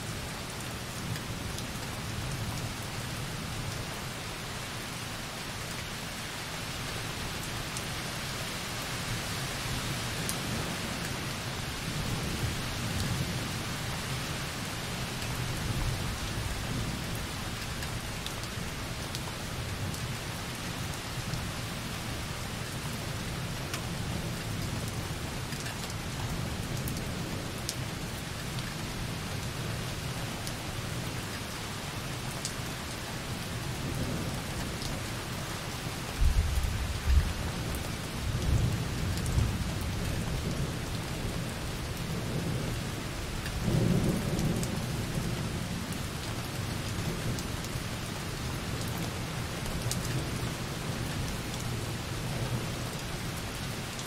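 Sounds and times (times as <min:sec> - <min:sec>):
light rain on a window: 0:00.0 - 0:54.0.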